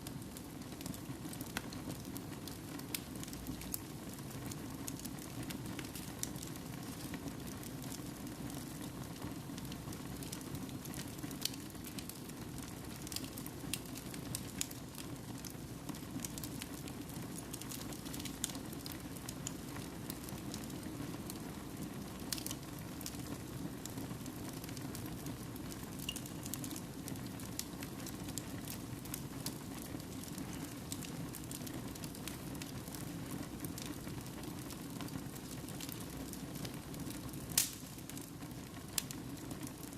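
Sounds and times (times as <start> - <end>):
burning logs crackling and popping: 0.0 - 39.9
flame rustle: 0.0 - 39.9.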